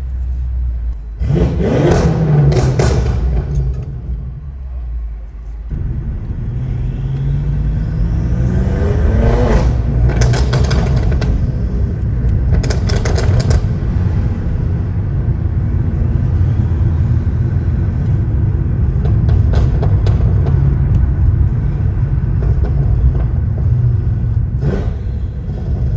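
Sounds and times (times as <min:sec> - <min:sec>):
exhaust crackles: 0:00.0 - 0:25.9
car engine accelerating hard: 0:01.2 - 0:25.9.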